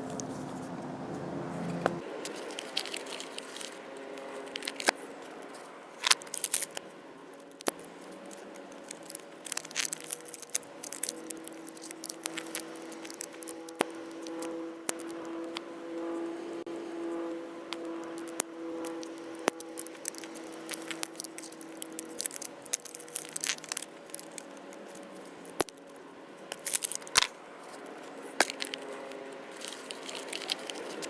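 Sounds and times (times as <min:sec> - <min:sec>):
faint steady hum: 0:00.0 - 0:31.0
plastic egg clicking and crinkling: 0:02.1 - 0:15.7, 0:17.7 - 0:31.0.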